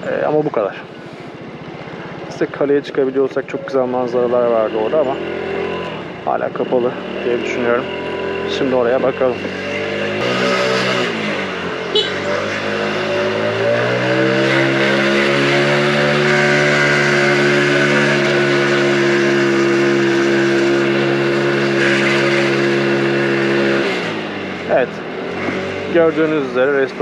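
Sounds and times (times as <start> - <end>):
scooter engine accelerating: 0.0 - 27.0.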